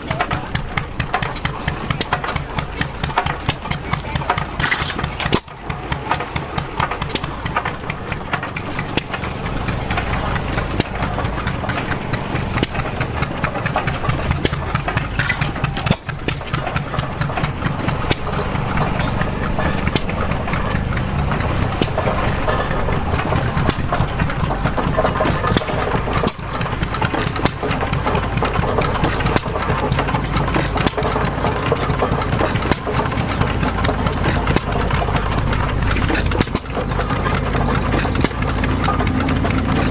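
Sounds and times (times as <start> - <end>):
gas engine knocking steadily: 0.0 - 39.9.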